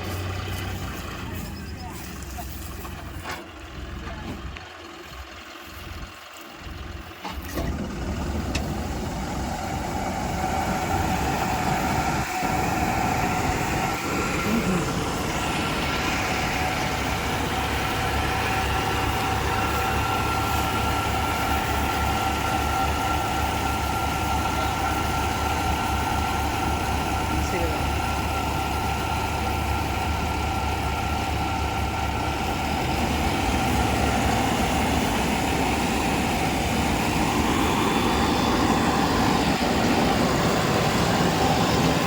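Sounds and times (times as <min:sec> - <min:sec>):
combine harvester engine drone: 0:00.0 - 0:42.0.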